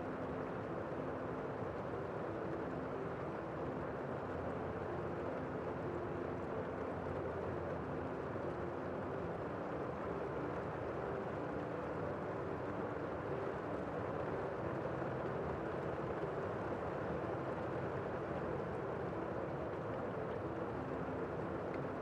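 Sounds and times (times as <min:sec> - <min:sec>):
muffled rain outside window: 0:00.0 - 0:22.0.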